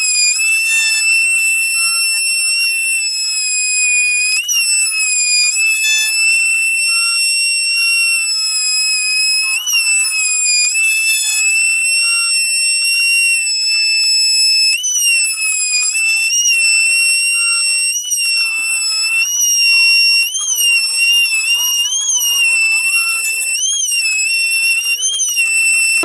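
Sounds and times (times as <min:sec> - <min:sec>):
router spindle whine: 0:00.0 - 0:26.0.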